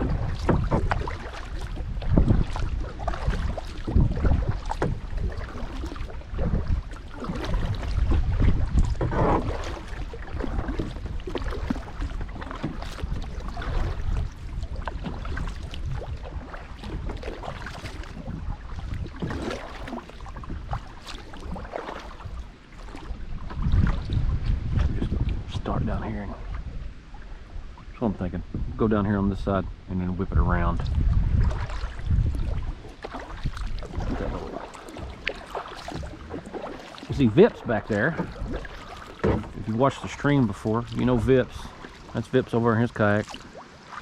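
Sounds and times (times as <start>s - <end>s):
wind buffeting microphone: 0.0s - 43.3s
paddle splashes and drips: 0.0s - 44.0s.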